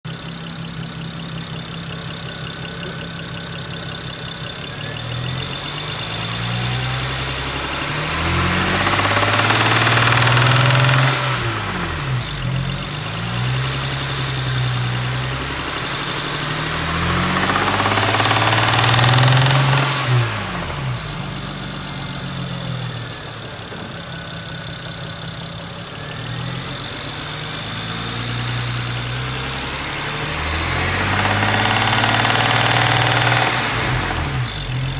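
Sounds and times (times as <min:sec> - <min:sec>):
car engine idling with knock: 0:00.1 - 0:29.1, 0:30.8 - 0:34.9.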